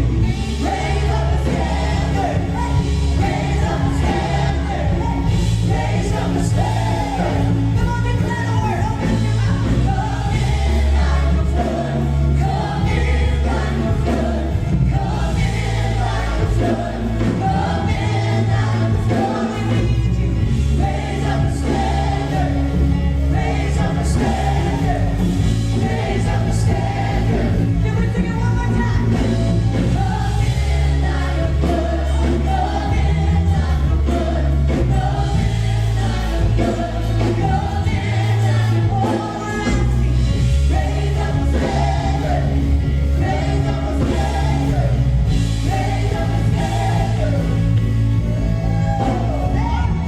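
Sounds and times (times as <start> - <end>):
bass and band accompaniment: 0.0 - 50.0
choir singing: 0.0 - 50.0.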